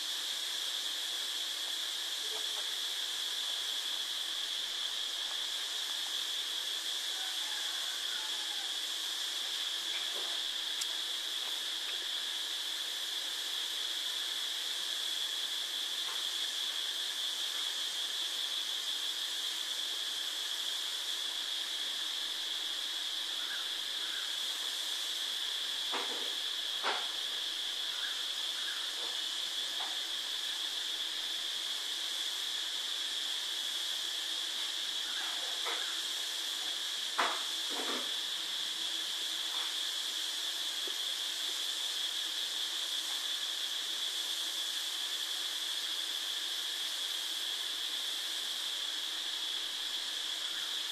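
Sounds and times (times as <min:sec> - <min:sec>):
steady hiss: 0:00.0 - 0:50.9.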